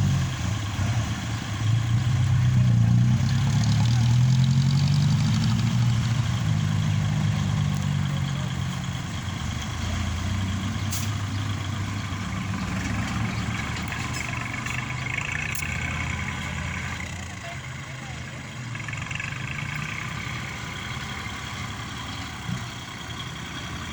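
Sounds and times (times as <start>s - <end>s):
heavy machinery diesel engine: 0.0s - 23.9s.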